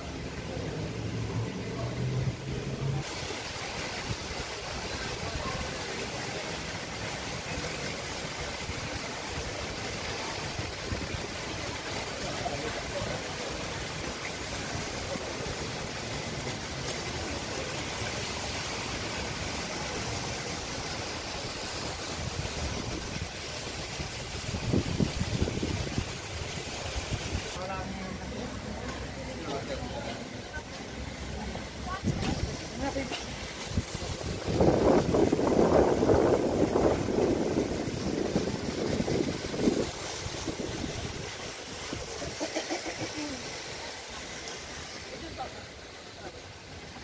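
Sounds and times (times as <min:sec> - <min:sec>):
fountain water splashing: 0:00.0 - 0:47.0.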